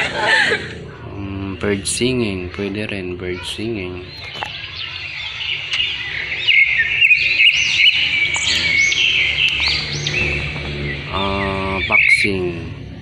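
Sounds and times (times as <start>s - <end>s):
small birds chirping and twittering: 0.0s - 13.0s.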